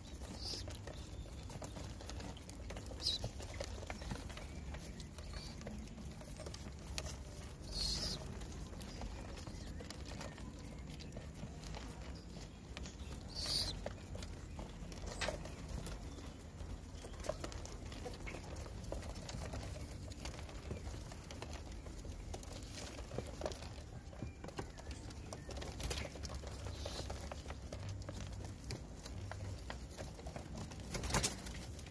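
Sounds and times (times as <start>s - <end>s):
pigeons pecking on concrete: 0.0s - 31.9s
pigeons shuffling: 0.0s - 31.9s.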